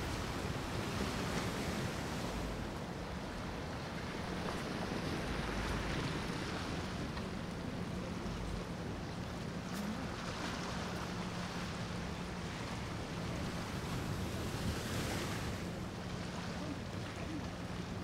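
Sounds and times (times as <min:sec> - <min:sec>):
boat engine hum: 0:00.0 - 0:18.0
water hissing bow wash: 0:00.0 - 0:18.0.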